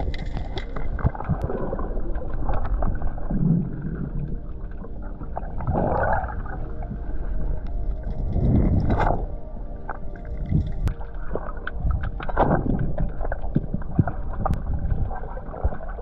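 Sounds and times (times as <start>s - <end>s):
muffled underwater water rumble: 0.0s - 16.0s
water gurgling swells: 0.0s - 16.0s.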